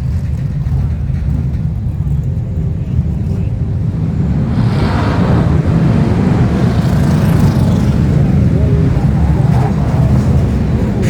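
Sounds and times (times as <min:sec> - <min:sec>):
race car engines roaring: 0:00.0 - 0:11.0.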